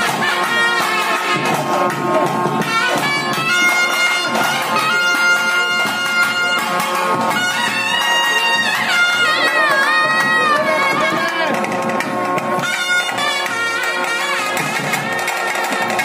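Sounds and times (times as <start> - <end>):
double-reed pipe melody: 0.0 - 16.0.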